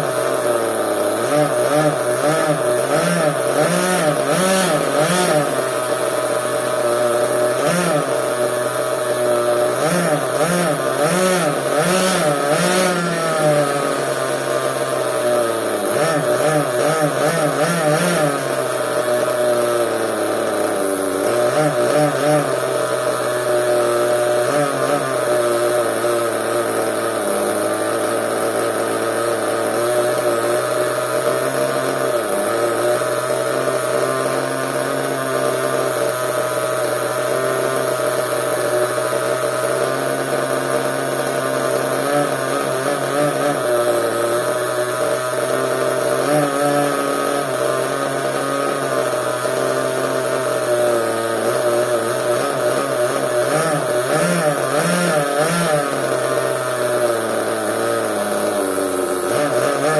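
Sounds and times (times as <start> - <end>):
small two-stroke engine running: 0.0 - 59.9.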